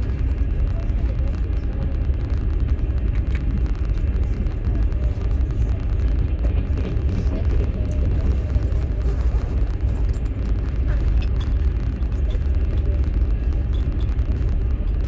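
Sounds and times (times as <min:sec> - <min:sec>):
train rumble from inside carriage: 0:00.0 - 0:15.0.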